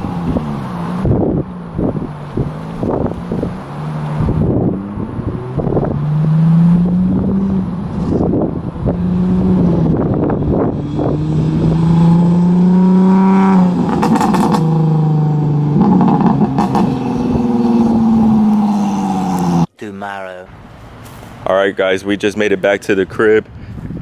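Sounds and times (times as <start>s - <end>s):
car engine accelerating through gears: 0.0s - 19.7s
exhaust crackling: 0.0s - 19.7s.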